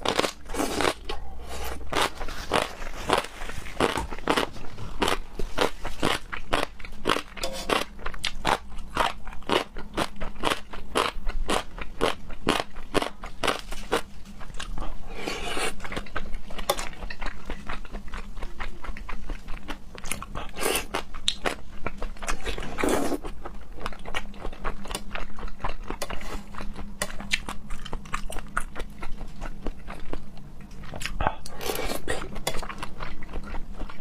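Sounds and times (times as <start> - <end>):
close-miked chewing and biting: 0.0 - 15.0, 15.6 - 34.0.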